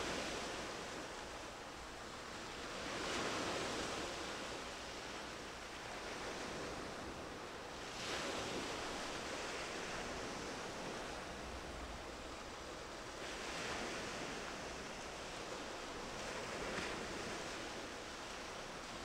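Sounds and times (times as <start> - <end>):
sea waves hissing surf: 0.0 - 19.0.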